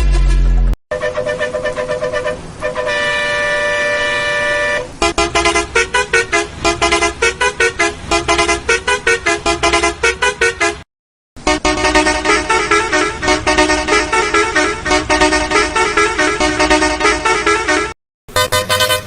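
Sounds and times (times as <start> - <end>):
bus horn honking: 0.0 - 19.0.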